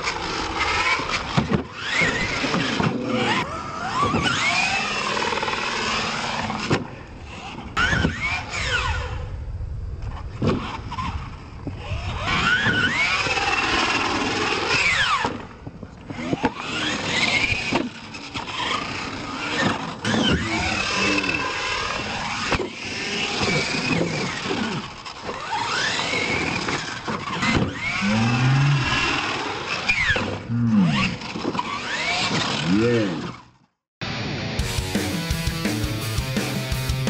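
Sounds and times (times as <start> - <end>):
electric motor whining: 0.0 - 9.2, 11.7 - 33.6.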